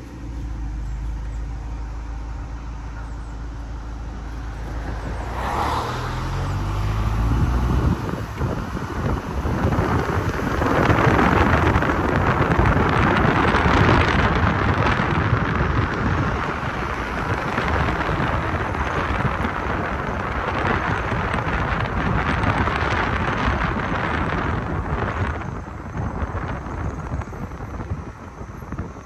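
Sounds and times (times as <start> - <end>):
car driving: 0.0 - 29.0.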